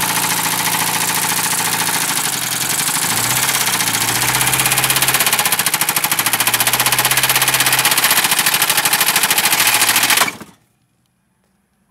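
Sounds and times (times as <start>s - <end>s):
diesel engine rod knocking: 0.0s - 10.5s.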